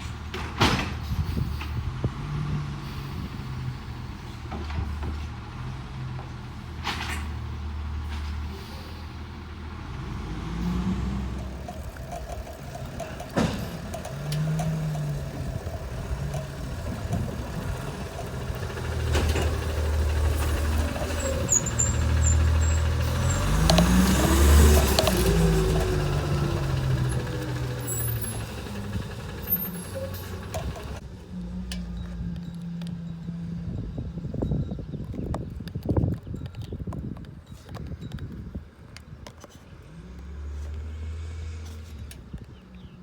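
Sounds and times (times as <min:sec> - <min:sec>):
garbage truck diesel engine: 0:00.0 - 0:35.0, 0:38.4 - 0:43.0.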